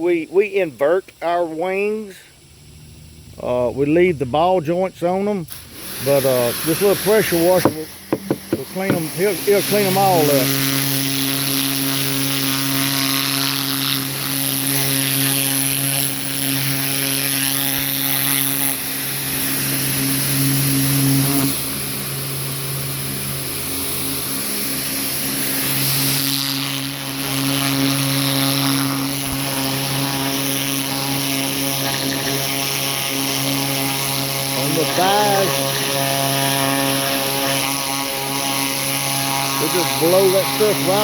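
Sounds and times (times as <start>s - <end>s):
nozzle hissing spray: 5.5s - 20.6s, 21.4s - 41.0s
pressure washer motor hum: 5.5s - 41.0s.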